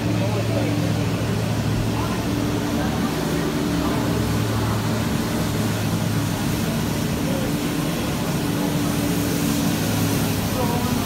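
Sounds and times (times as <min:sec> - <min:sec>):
ice resurfacer engine humming: 0:00.0 - 0:11.0.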